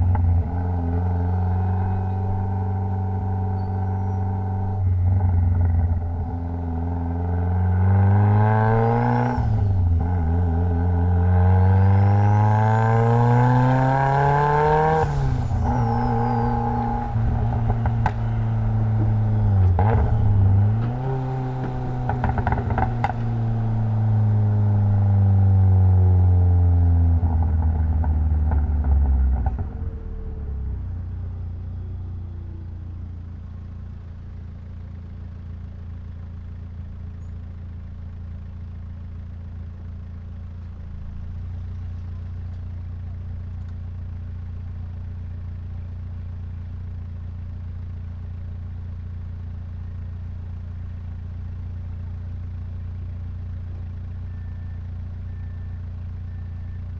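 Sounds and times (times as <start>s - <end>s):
car engine winding down and idling: 0.0s - 56.9s.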